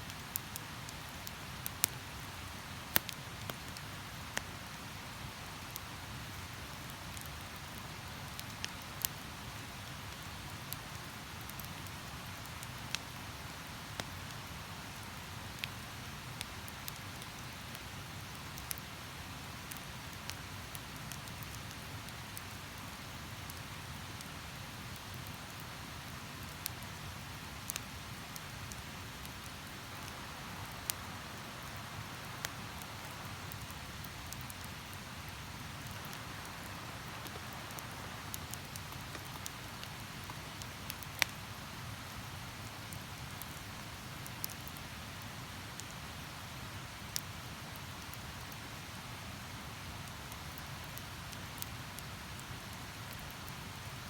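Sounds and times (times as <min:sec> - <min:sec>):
campfire crackling and popping: 0:00.1 - 0:46.2, 0:46.8 - 0:48.6, 0:49.4 - 0:53.8.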